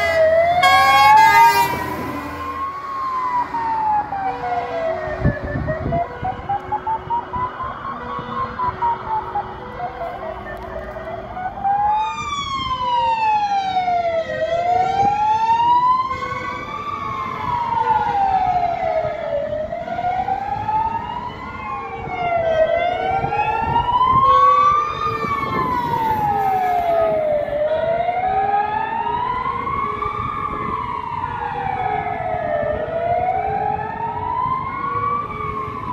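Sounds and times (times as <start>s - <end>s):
fire engine siren wailing: 0.0s - 35.9s
passing traffic: 0.0s - 35.9s.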